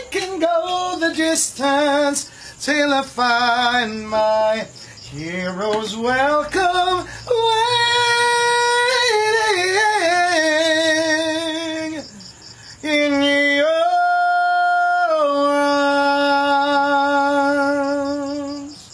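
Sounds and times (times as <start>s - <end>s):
man singing unaccompanied: 0.0s - 18.9s.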